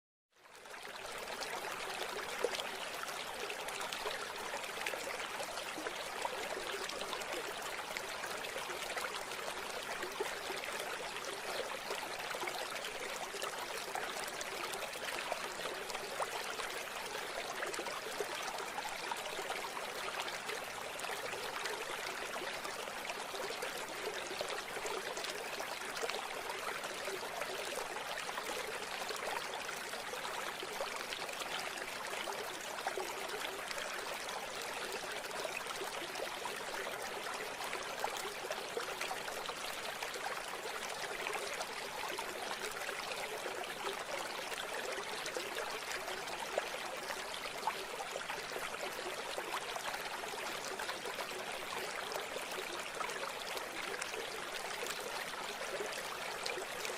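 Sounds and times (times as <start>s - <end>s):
stream flowing over stones: 0.4s - 56.9s.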